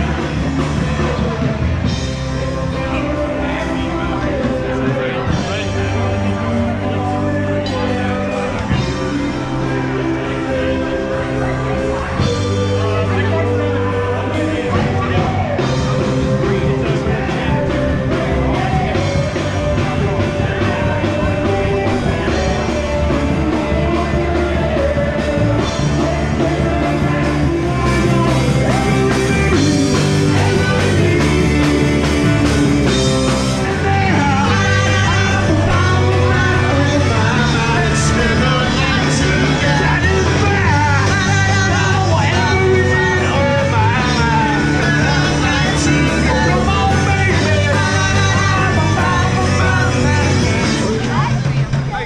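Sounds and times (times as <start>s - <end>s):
person singing: 0.0s - 51.7s
rock band playing live: 0.0s - 52.0s.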